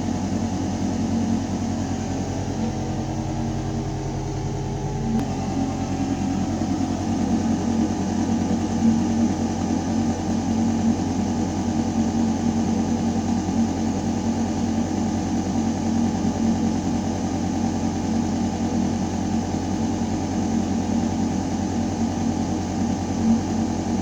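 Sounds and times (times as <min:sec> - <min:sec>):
ventilation system hum: 0:00.0 - 0:24.0.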